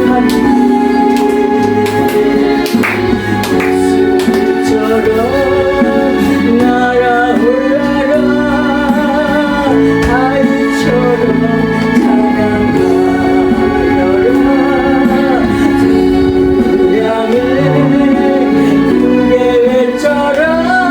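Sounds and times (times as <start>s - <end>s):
sustained accompaniment chords: 0.0s - 7.4s, 9.6s - 19.7s
person singing praise song: 3.3s - 20.9s.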